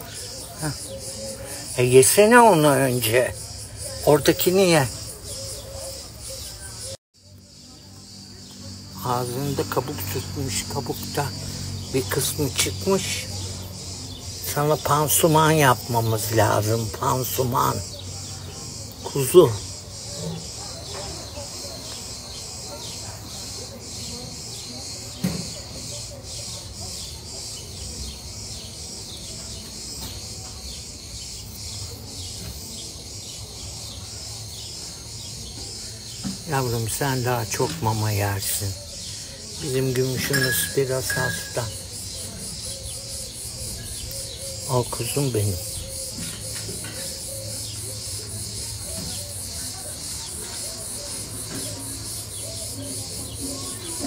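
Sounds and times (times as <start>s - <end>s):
cicadas singing: 0.0s - 54.0s
pulsing insect chorus: 0.0s - 54.0s.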